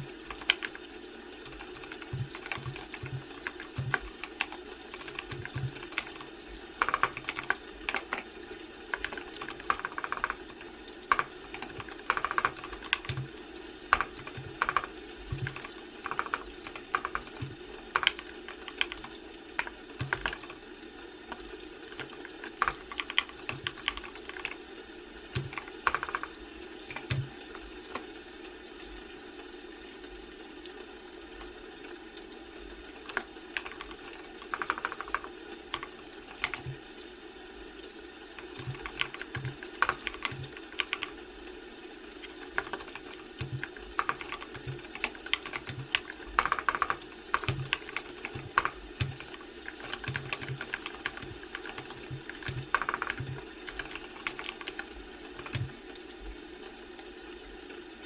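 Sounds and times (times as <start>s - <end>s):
keyboard keystrokes clicking: 0.0s - 20.6s, 21.3s - 24.7s, 25.3s - 28.2s, 32.4s - 36.9s, 38.4s - 41.2s, 42.1s - 55.8s
low background hum: 0.0s - 58.0s.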